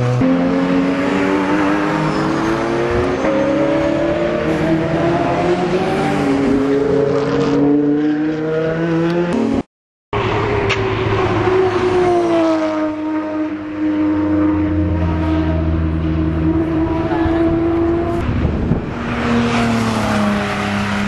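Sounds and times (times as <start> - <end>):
racing cars passing at speed: 0.0 - 9.6, 10.2 - 21.0.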